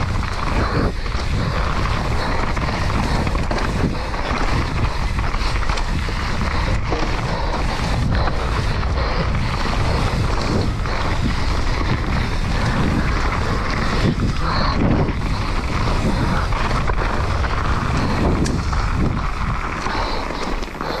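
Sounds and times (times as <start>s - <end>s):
bike knocking on rough ground: 0.0s - 21.0s
tyres rolling over dirt: 0.0s - 21.0s
wind buffeting microphone: 0.0s - 21.0s.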